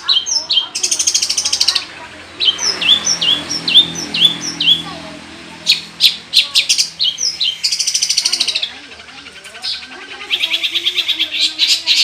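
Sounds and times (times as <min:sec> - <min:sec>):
bird harsh chips: 0:00.0 - 0:12.0.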